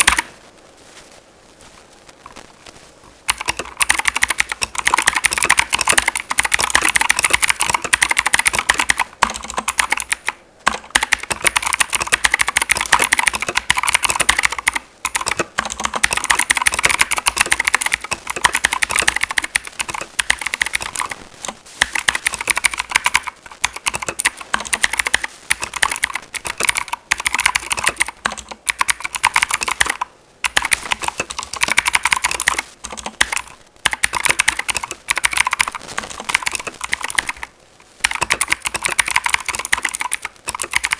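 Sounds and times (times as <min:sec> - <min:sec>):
mechanical keyboard typing: 0:00.0 - 0:00.4, 0:03.3 - 0:40.9.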